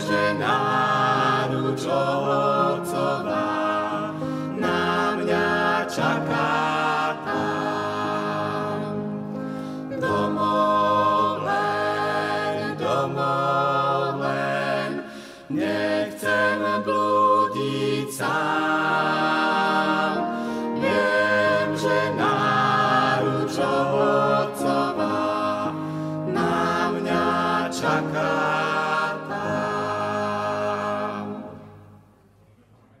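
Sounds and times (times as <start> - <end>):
upright piano: 0.0 - 32.0
vocal quartet singing a hymn: 0.0 - 32.2.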